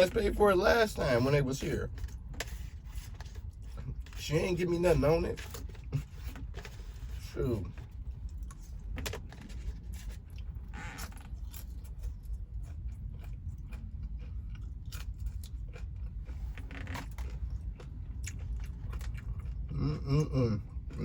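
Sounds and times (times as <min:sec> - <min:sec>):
person chewing crispy bacon: 0:01.0 - 0:04.5, 0:05.2 - 0:21.0.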